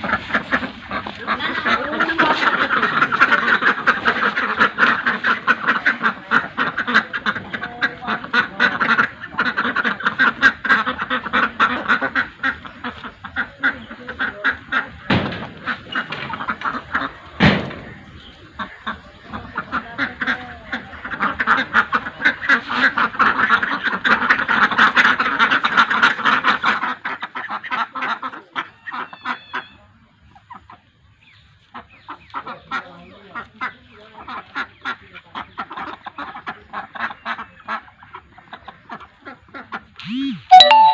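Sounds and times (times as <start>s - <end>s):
ducks quacking: 0.0s - 40.2s.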